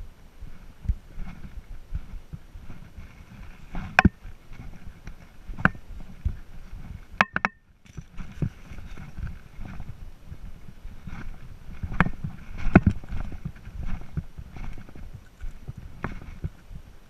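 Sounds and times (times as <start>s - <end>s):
muffled thumps and rubbing: 0.4s - 17.0s.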